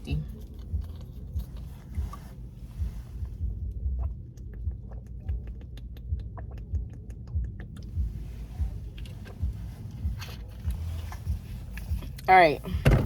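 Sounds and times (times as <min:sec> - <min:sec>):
low dull thumping: 0:00.1 - 0:13.0.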